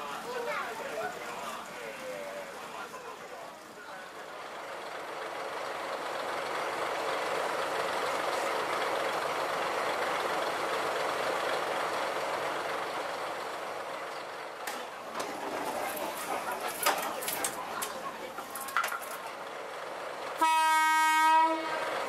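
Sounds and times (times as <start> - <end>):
diesel railcar engines running: 0.0 - 22.0.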